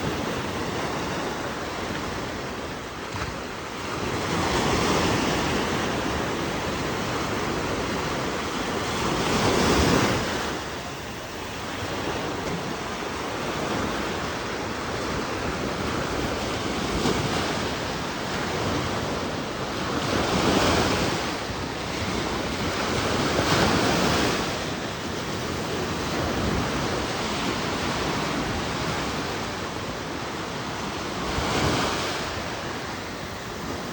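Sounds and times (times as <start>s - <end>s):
ocean waves breaking on shore: 0.0s - 33.9s
wind: 0.0s - 33.9s.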